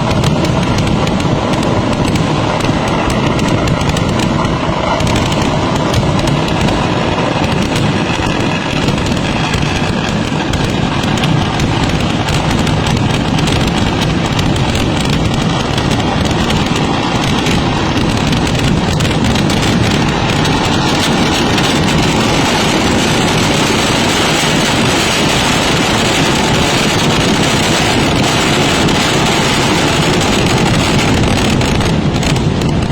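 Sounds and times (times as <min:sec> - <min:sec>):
firecrackers crackling: 0:00.0 - 0:32.9.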